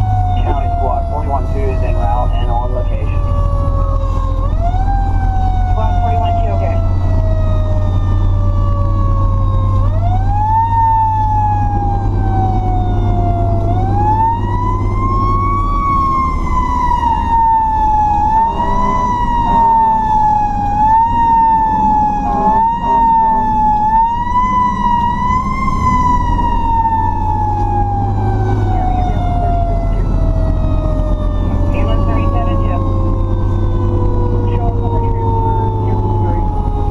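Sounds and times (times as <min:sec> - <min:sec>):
low engine drone: 0:00.0 - 0:36.9.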